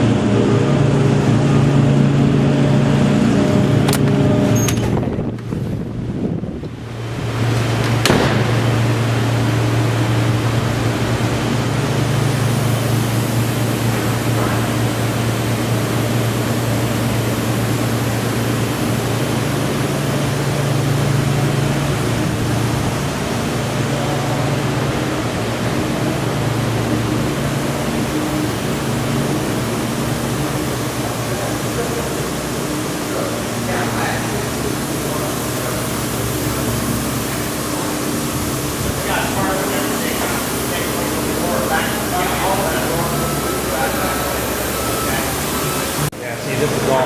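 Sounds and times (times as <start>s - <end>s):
machinery humming and rushing: 0.0s - 47.0s.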